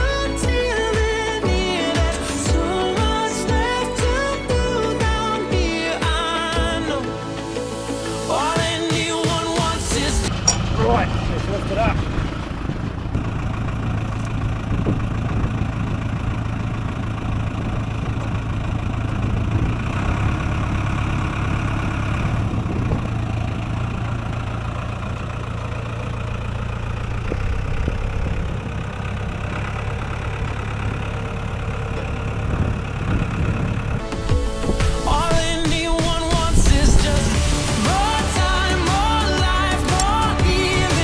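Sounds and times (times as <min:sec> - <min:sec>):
farm vehicle engine droning: 0:00.0 - 0:41.0.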